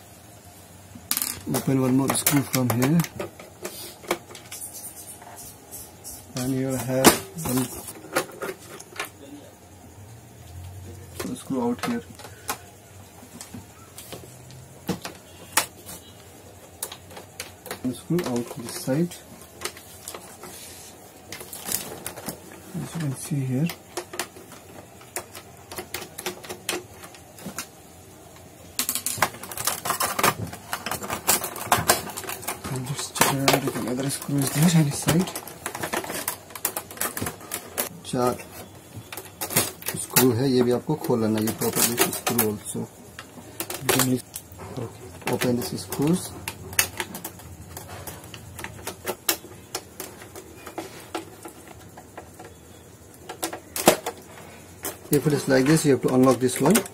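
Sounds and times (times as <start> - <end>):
plastic parts clicking and rattling: 1.1 - 4.7, 6.3 - 9.5, 11.1 - 56.9.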